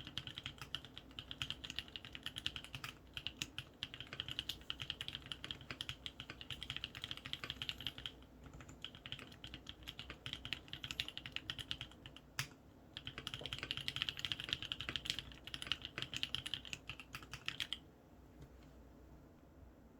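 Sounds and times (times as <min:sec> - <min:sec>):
fast typing on mechanical keyboard: 0:00.0 - 0:17.8.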